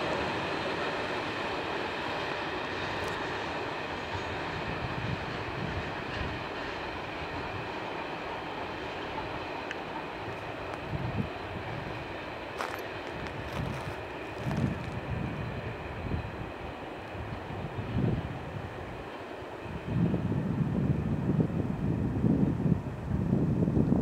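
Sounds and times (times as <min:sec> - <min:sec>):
train wheels rumbling on rail: 0:00.0 - 0:24.0
wind gusts on microphone: 0:00.0 - 0:24.0.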